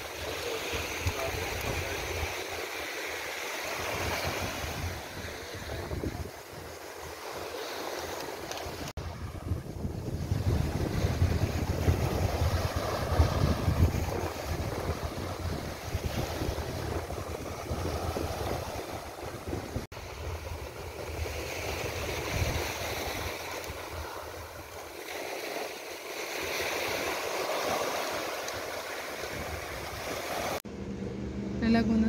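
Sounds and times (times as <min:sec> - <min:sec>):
small waves breaking on beach: 0:00.0 - 0:30.6
wind rumbling on microphone: 0:03.7 - 0:25.2, 0:26.4 - 0:32.0.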